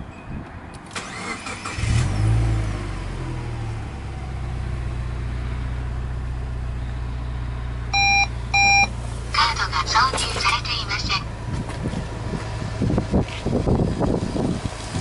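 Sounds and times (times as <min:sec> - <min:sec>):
car engine starting and idling: 0:00.8 - 0:15.0.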